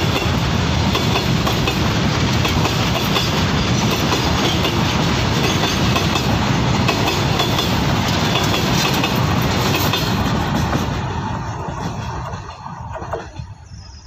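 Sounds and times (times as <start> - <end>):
freight train passing: 0.0 - 14.0.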